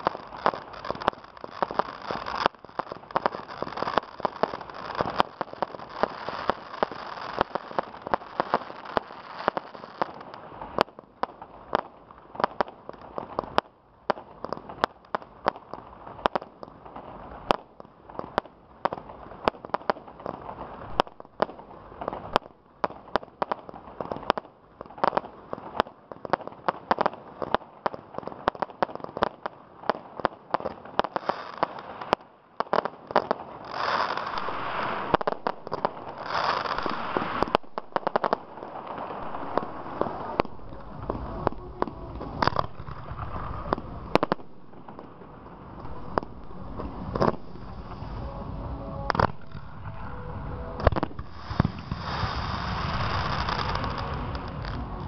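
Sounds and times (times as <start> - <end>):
fireworks bangs and pops: 0.0 - 55.0
fireworks crackling: 0.0 - 55.0.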